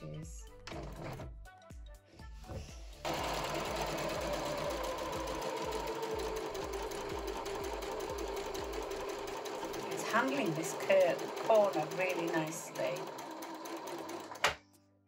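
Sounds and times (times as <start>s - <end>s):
sewing machine stitching: 0.7s - 1.2s, 3.0s - 14.6s.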